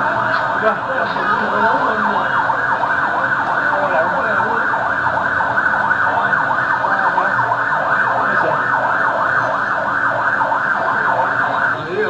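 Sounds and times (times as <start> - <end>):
electronic sirens wailing: 0.0 - 12.0.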